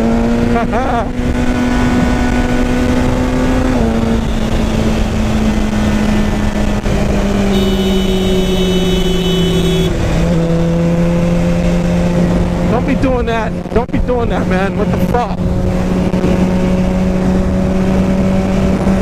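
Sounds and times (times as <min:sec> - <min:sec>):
motorcycle engine cruising: 0:00.0 - 0:19.0
wind noise: 0:00.0 - 0:19.0.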